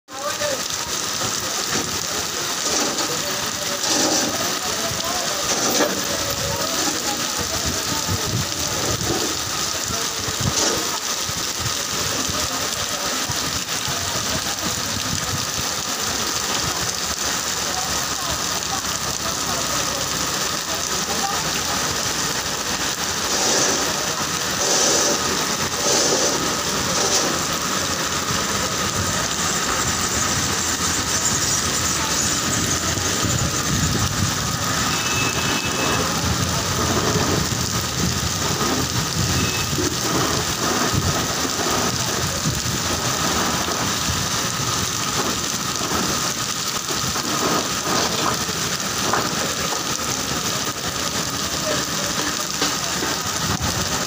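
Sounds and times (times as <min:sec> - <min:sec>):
heavy rain on flooded road: 0:00.0 - 0:54.0
vehicle noise: 0:00.2 - 0:54.0.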